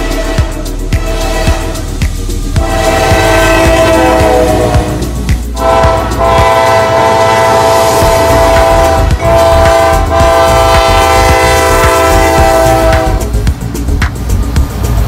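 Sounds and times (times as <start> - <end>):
locomotive air horn: 0.0 - 13.4
train rumbling: 0.0 - 15.0.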